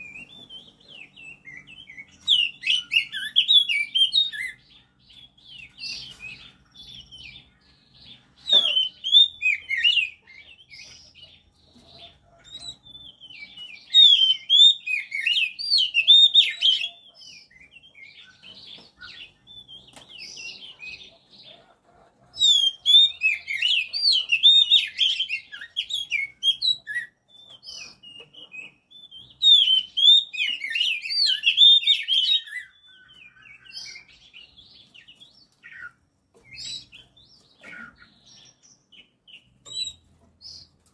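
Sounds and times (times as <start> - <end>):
bird singing warbled phrases: 0.0 - 40.8.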